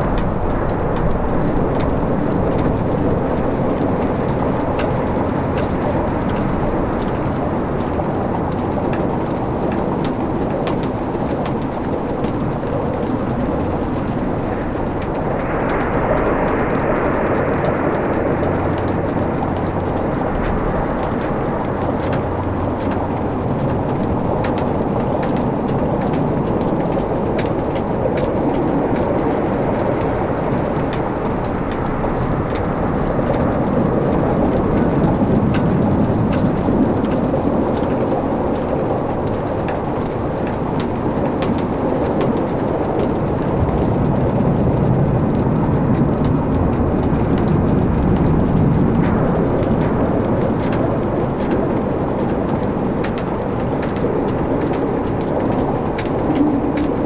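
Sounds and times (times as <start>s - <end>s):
fire flames rushing: 0.0s - 57.0s
wood crackling and popping: 0.0s - 57.0s.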